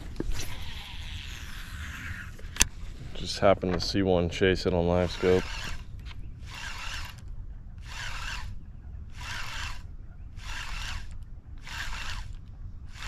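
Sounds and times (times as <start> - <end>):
fishing reel gears whirring: 0.0 - 2.6, 5.0 - 13.0.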